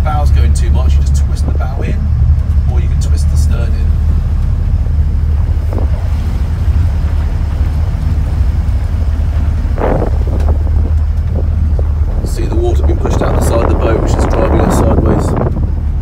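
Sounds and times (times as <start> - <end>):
boat diesel engine drone: 0.0 - 16.0
wind buffeting microphone: 0.0 - 16.0.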